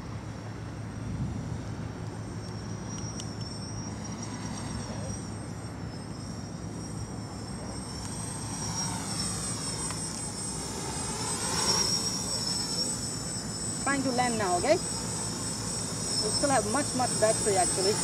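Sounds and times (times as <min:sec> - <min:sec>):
quadcopter motors whining: 0:00.1 - 0:18.0.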